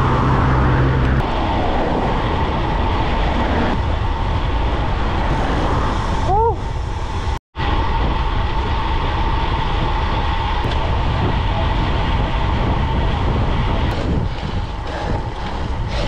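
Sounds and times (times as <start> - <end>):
bicycle tyre and road noise: 0.0 - 16.0
wind rushing over microphone: 0.0 - 16.0.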